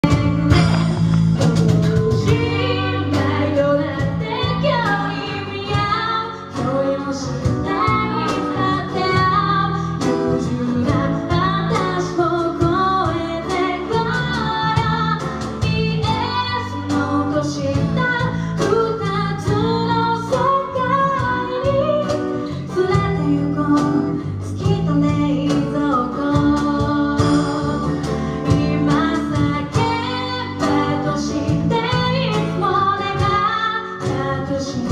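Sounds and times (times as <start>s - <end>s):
instrumental accompaniment: 0.0s - 34.9s
women singing in harmony: 0.0s - 34.9s.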